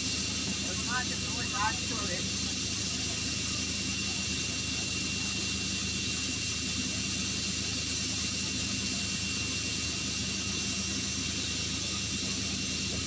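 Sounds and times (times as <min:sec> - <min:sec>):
helicopter turbine engines running: 0:00.0 - 0:13.0.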